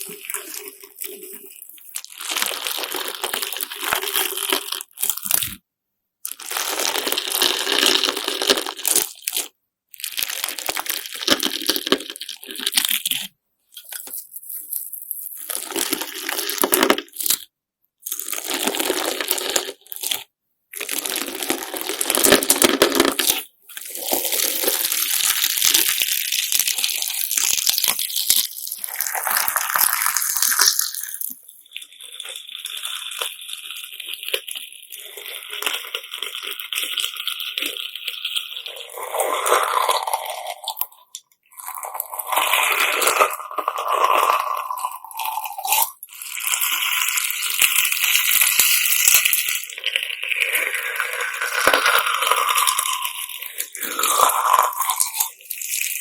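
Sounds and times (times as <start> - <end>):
gritty slime crunching: 0.0 - 5.6, 6.3 - 17.5, 18.1 - 56.0.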